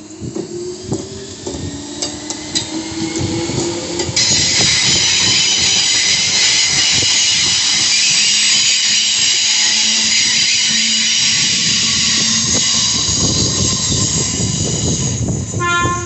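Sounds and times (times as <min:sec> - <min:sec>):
wheels clicking over rail joints: 0:00.0 - 0:15.5
loud hiss of air: 0:00.0 - 0:16.0
low whine of running gear: 0:00.0 - 0:16.0.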